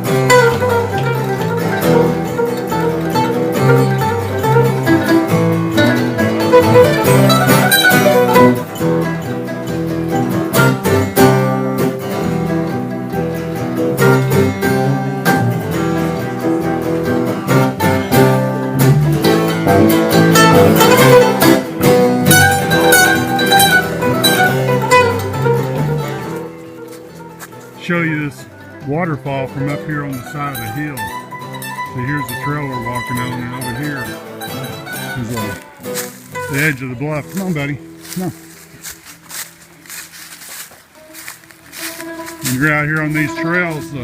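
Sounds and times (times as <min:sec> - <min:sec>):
guitar picking: 0:00.0 - 0:44.0
mandolin picking: 0:00.0 - 0:44.0
string band music: 0:00.0 - 0:44.0.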